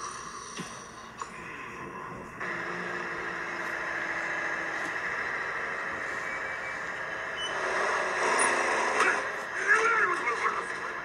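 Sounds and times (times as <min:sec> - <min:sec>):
truck engine and road hum: 0:00.0 - 0:11.0.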